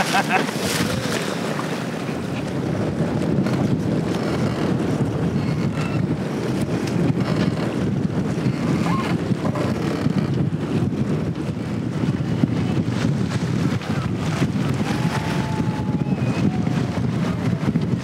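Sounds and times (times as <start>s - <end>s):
choppy river water: 0.0s - 18.0s
wind buffeting microphone: 0.0s - 18.0s.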